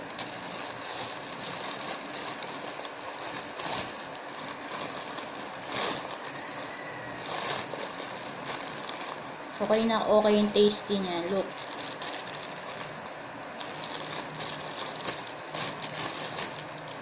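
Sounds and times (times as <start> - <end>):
plastic bag crinkling and rustling: 0.0 - 17.0.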